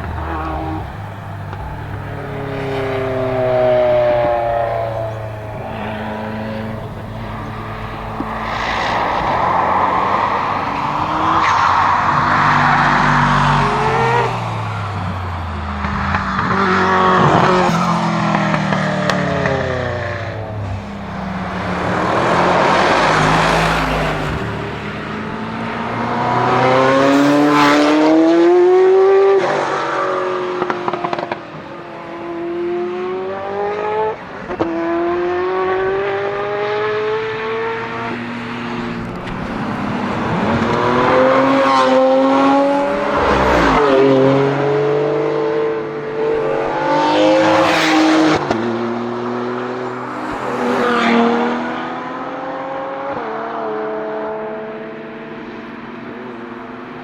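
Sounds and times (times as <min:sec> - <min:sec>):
sports car engine accelerating: 0:00.0 - 0:56.9.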